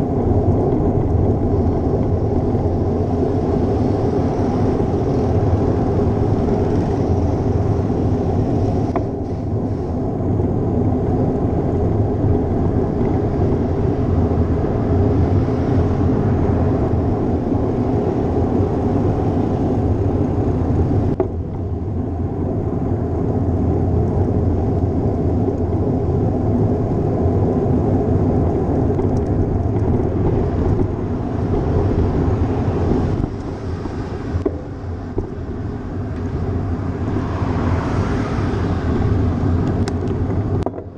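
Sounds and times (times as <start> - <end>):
road noise: 0.0 - 40.9
wind rumble: 0.0 - 40.9.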